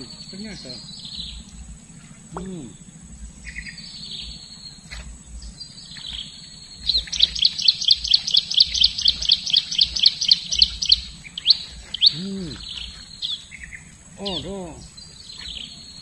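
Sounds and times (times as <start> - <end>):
bird singing: 0.0 - 16.0
steady high-pitched buzz: 0.0 - 16.0.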